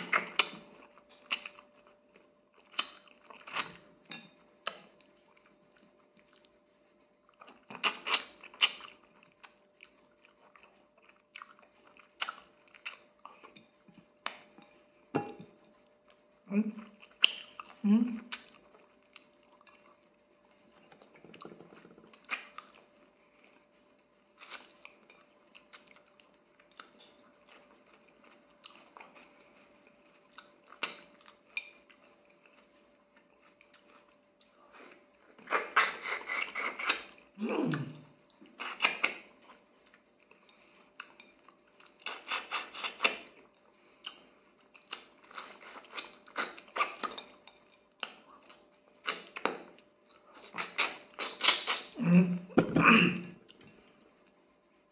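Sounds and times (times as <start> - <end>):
person chewing: 0.0 - 52.0.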